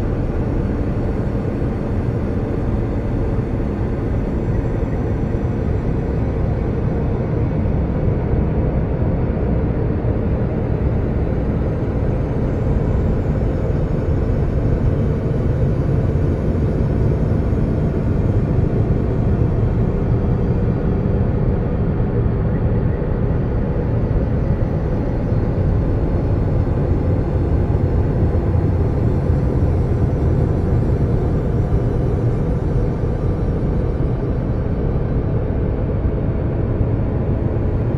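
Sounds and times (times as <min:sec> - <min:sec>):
low rumbling drone: 0:00.0 - 0:37.9.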